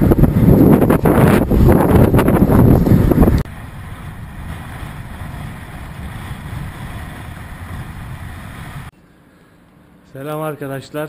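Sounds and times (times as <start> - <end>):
bicycle riding noise: 0.0 - 8.9
wind buffeting microphone: 0.0 - 8.9.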